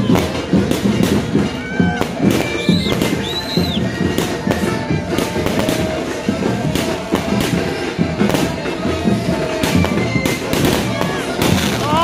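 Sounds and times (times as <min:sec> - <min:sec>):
background music: 0:00.0 - 0:12.0
fireworks bangs: 0:00.0 - 0:12.0.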